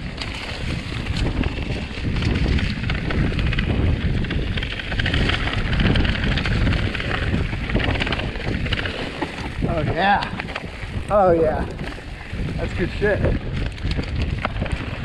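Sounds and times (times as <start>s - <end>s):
bike rattling: 0.0s - 15.0s
tyres rolling over dirt and rocks: 0.0s - 15.0s
wind on microphone: 0.0s - 15.0s.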